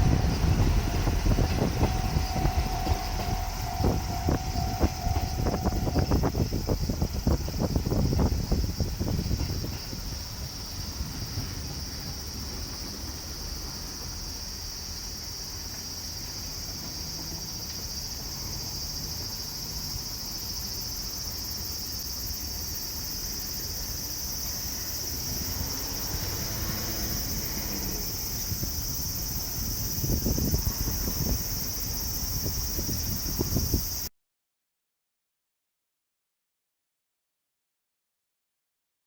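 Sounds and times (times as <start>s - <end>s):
cicadas buzzing: 0.0s - 34.1s.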